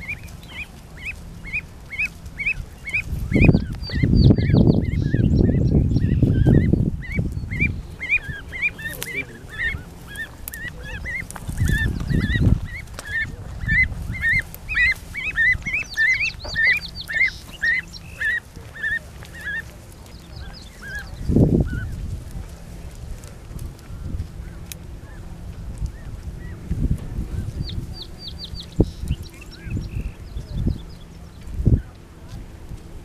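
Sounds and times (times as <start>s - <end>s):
microphone rumbling bursts: 0.0s - 19.4s, 20.3s - 33.0s
goslings peeping: 0.0s - 33.0s.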